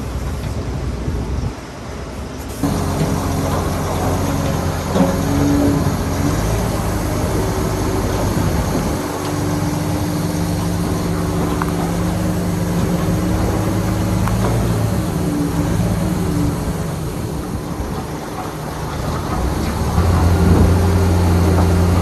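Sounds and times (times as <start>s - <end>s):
bulldozer diesel engine running: 2.5s - 22.0s.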